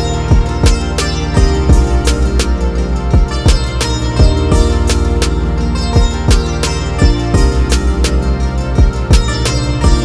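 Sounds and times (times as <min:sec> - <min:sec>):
plucked strings: 0:00.0 - 0:10.0.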